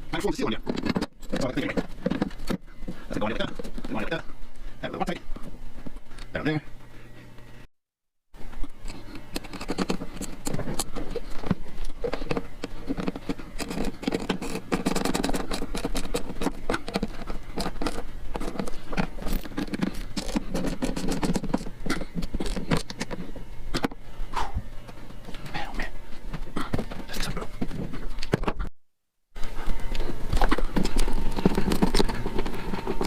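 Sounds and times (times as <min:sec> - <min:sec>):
hand tools clicking and scraping: 0:00.2 - 0:04.2, 0:08.6 - 0:28.3, 0:29.4 - 0:33.0.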